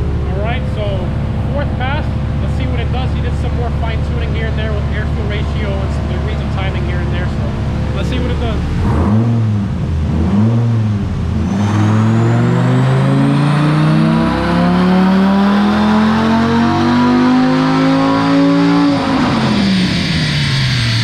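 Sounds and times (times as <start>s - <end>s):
car engine revving on dyno: 0.0s - 21.0s.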